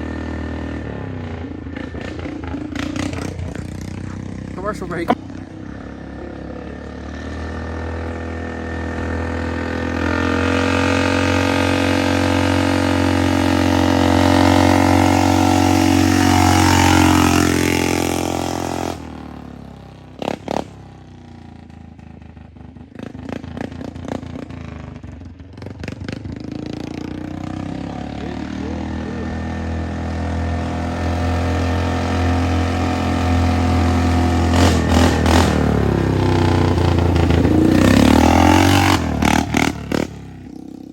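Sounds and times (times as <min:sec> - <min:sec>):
four-wheeler engine loud exhaust: 0:00.0 - 0:40.9.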